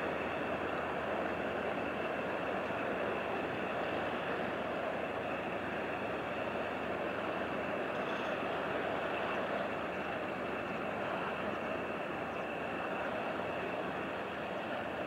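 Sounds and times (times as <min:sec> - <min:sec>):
barge engine drone: 0:00.0 - 0:15.0.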